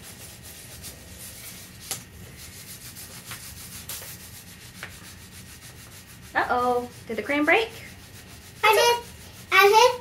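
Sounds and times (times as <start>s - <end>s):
crayons scribbling on paper: 0.0s - 10.0s.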